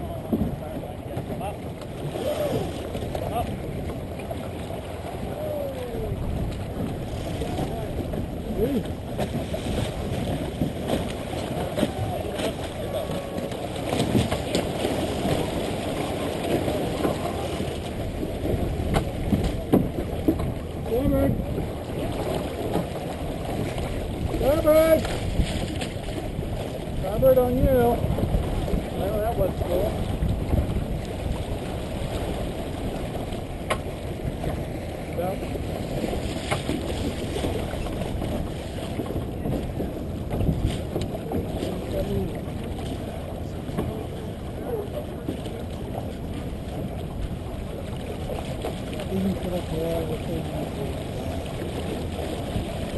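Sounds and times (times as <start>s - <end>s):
water and wind rushing along hull: 0.0s - 52.9s.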